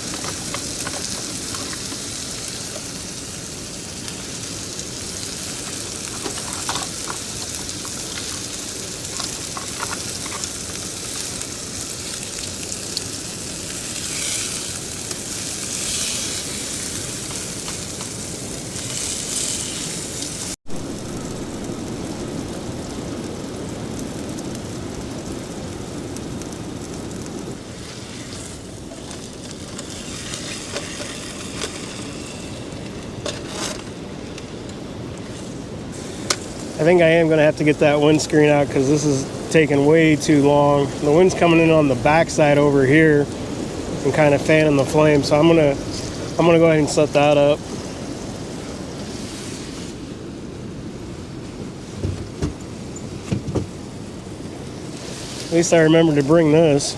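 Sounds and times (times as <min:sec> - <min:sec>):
steak sizzling in a pan: 0:00.0 - 0:33.4, 0:34.0 - 0:50.1.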